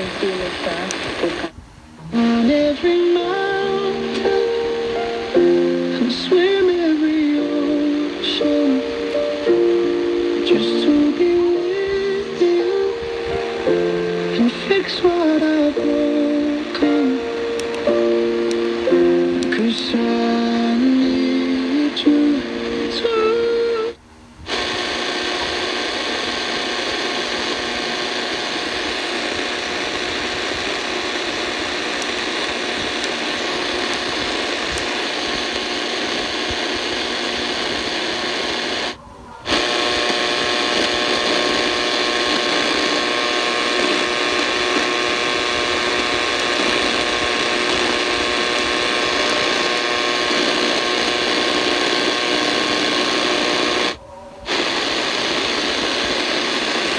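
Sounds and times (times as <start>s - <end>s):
radio interference buzz: 0.0s - 56.9s
radio static hiss: 0.0s - 56.9s.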